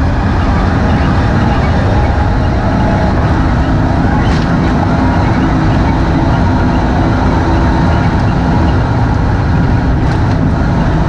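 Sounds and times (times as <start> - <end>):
car engine running under load: 0.0 - 11.0
tyre and chassis noise: 0.0 - 11.0.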